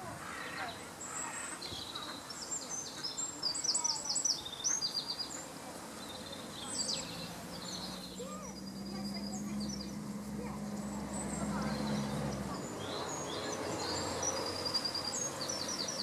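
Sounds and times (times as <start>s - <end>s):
bird chirping: 0.0s - 16.0s
outdoor background noise: 0.0s - 16.0s.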